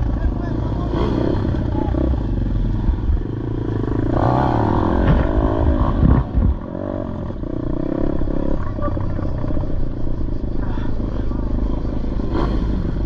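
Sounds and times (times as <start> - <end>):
small motorbike engine revving: 0.6 - 9.9, 11.5 - 13.0.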